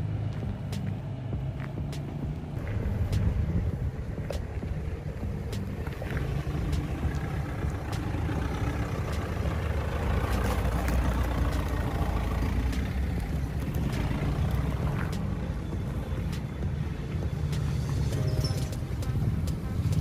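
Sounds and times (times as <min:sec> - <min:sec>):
diesel engine running: 0:00.0 - 0:20.0
tyres crunching on dirt: 0:00.0 - 0:20.0.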